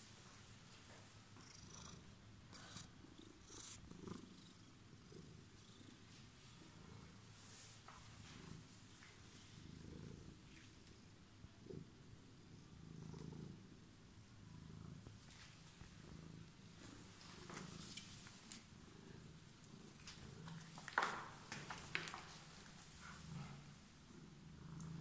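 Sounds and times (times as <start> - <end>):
cat purring: 1.3 - 25.0.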